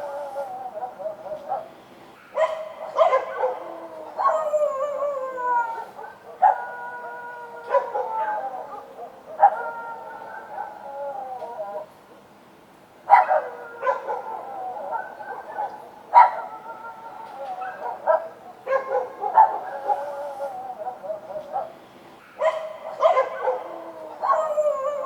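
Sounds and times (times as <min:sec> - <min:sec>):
dogs barking: 0:00.0 - 0:11.9, 0:13.0 - 0:25.0
dogs howling: 0:00.0 - 0:12.0, 0:13.1 - 0:25.0.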